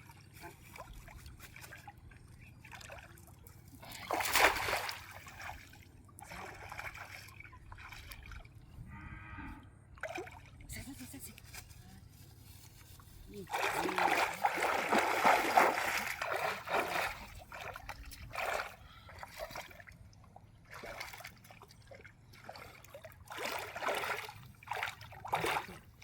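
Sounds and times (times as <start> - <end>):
river water splashing: 0.0 - 8.6, 9.9 - 11.6, 12.7 - 26.0.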